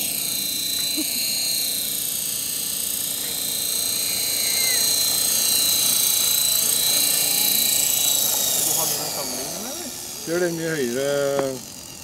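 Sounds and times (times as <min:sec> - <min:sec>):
rc helicopter motor whine: 0:00.0 - 0:12.0.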